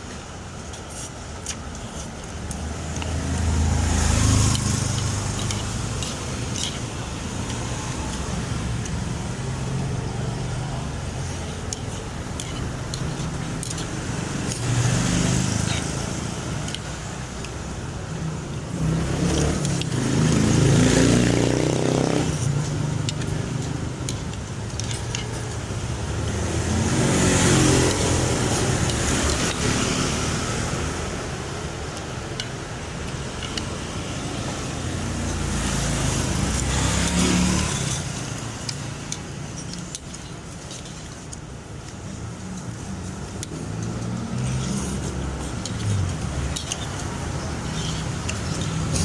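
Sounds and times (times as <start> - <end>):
vehicles passing by: 0.0 - 49.0.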